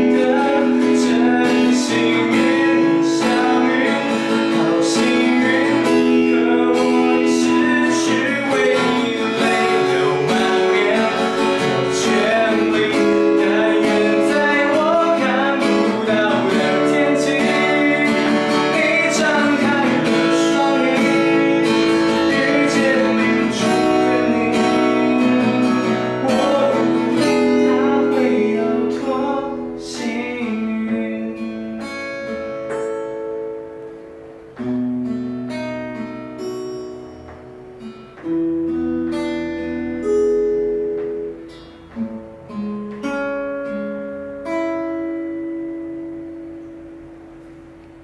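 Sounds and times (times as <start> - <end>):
fingerstyle acoustic guitar: 0.0 - 48.0.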